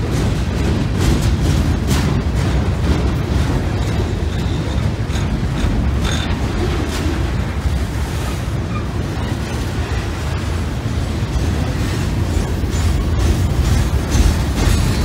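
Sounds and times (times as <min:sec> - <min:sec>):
freight train rumbling over trestle: 0:00.0 - 0:15.0.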